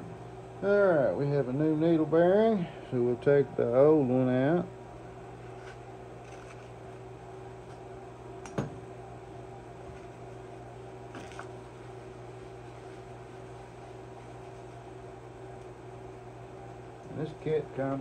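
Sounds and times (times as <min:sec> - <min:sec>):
workshop background hum: 0:00.0 - 0:18.0.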